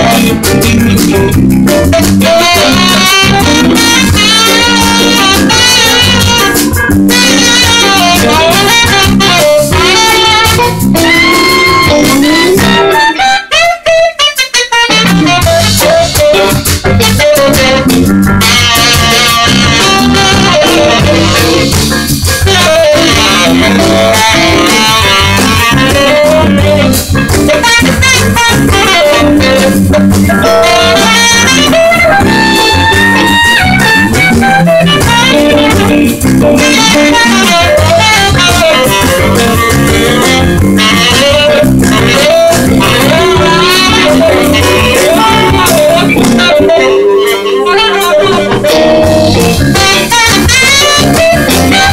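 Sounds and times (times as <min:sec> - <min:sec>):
live jazz band playing: 0:00.0 - 0:51.9.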